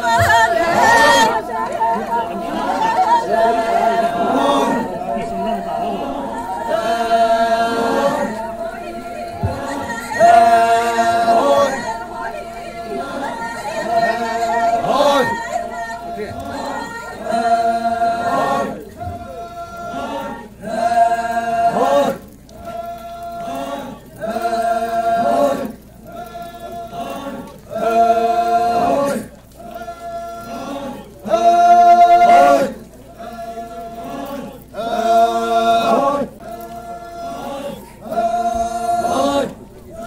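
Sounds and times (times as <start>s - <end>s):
group chanting folk song: 0.0s - 40.0s.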